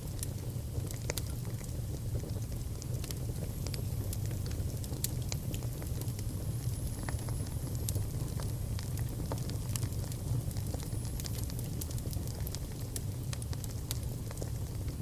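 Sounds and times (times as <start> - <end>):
fire crackles and pops: 0.0 - 15.0
fire rumbling in a fireplace: 0.0 - 15.0.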